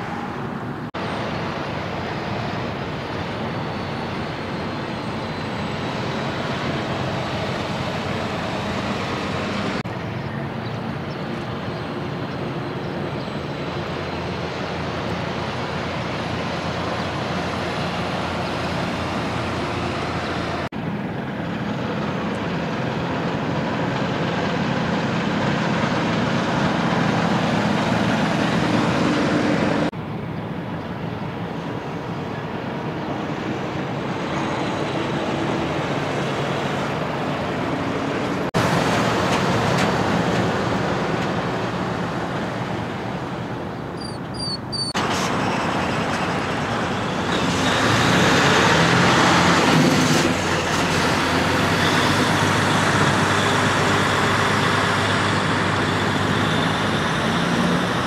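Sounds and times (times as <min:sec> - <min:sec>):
trucks driving past: 0:00.0 - 0:58.0.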